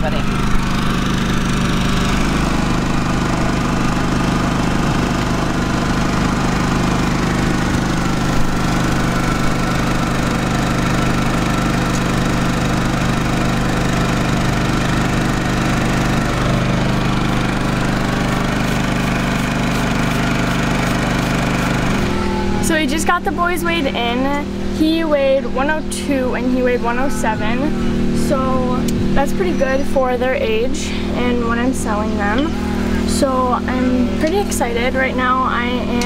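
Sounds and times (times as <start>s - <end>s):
portable generator engine running: 0.0s - 36.0s.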